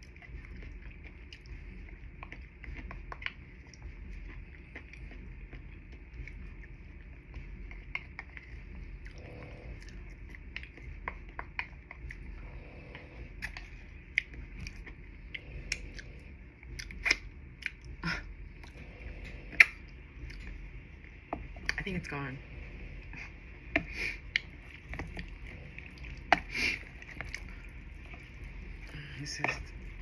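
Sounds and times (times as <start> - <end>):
person chewing food: 0.0 - 21.8, 22.4 - 30.0.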